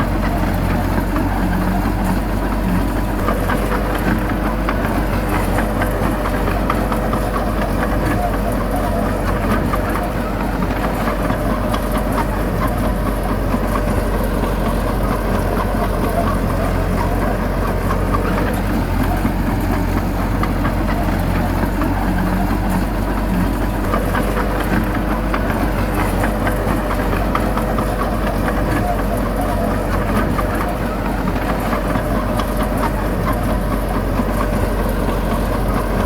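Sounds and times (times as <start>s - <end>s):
heavy diesel engine droning: 0.0s - 36.0s.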